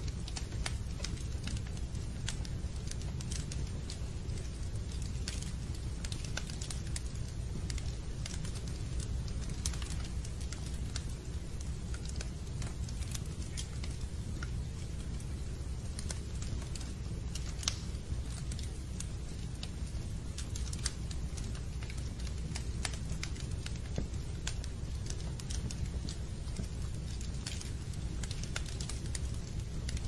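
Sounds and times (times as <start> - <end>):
fire rumbling: 0.0 - 30.0
fire snapping and popping: 0.0 - 30.0.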